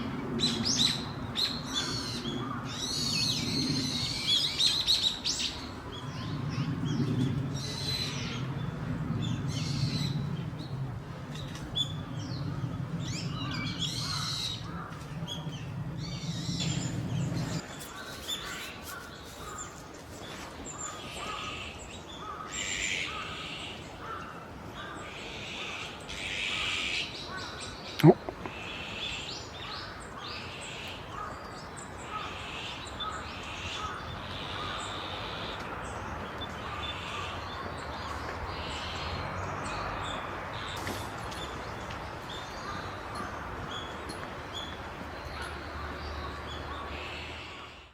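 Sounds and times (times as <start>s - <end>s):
wild birds chirping: 0.0s - 47.9s.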